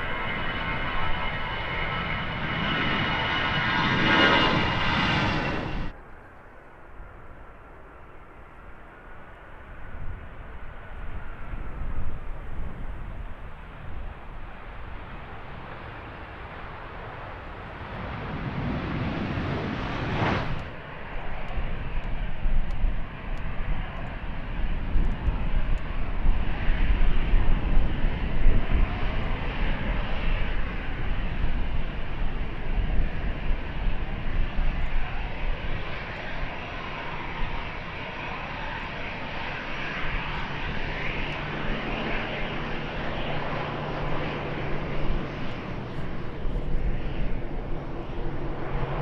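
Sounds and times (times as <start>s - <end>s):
jet engines at high power: 0.0s - 49.0s.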